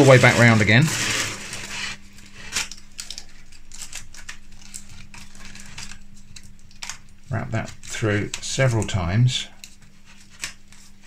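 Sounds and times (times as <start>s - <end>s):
aluminium foil crinkling: 0.0s - 11.0s
faint steady hum: 0.0s - 11.0s.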